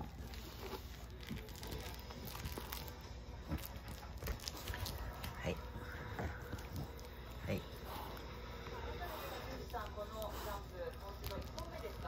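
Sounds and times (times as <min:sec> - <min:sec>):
dog chewing plush toy: 0:00.0 - 0:12.0.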